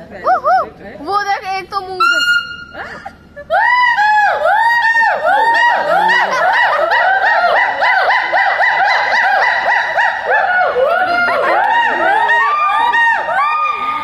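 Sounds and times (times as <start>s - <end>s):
gibbons whooping calls: 0.2s - 0.8s, 2.0s - 14.0s.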